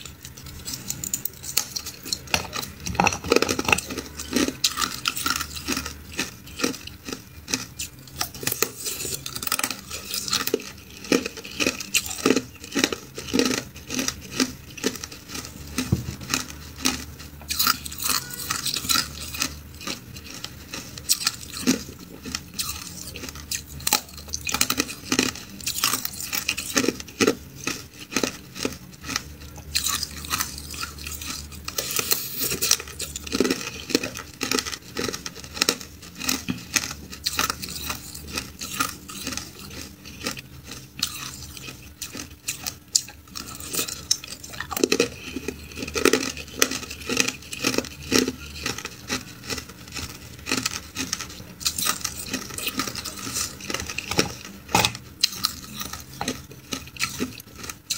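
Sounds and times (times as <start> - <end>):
ice crunching between teeth: 0.0 - 57.9.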